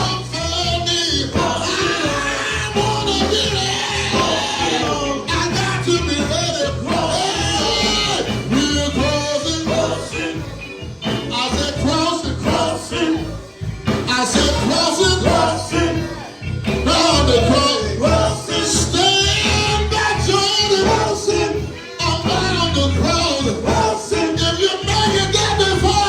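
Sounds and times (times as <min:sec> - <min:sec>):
upbeat song with singing: 0:00.0 - 0:26.0.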